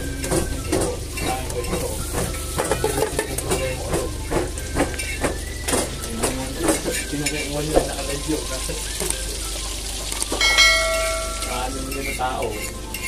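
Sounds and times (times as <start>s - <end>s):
utensil scraping a pan: 0.0s - 8.0s, 10.4s - 13.0s
food sizzling in a wok: 0.0s - 13.0s.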